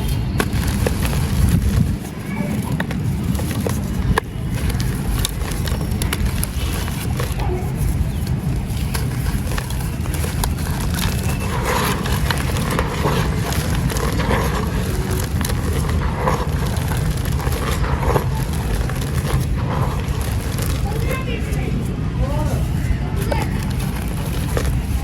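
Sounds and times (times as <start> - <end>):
sand cement crumbling and crunching: 0.0 - 25.0.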